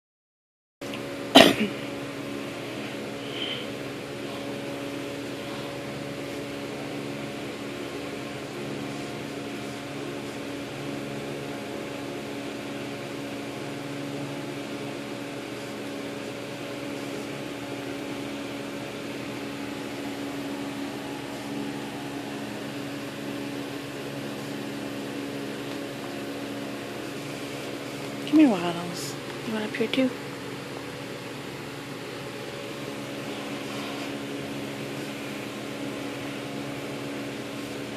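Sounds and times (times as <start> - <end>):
mechanical hum: 0.8 - 37.9.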